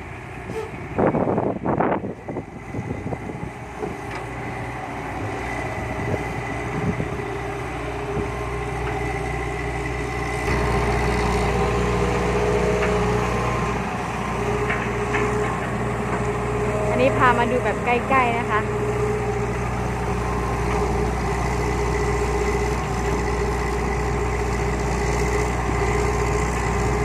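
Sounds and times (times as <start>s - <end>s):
heavy machinery engine running: 0.0s - 27.0s.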